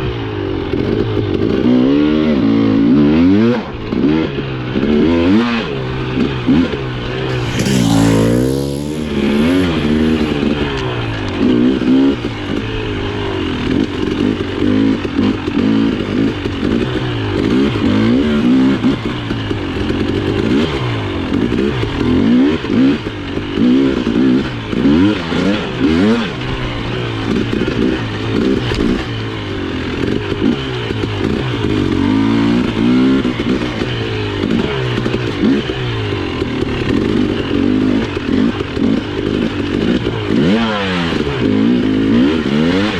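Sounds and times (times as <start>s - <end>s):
motorcycle engine revving: 0.7s - 42.9s.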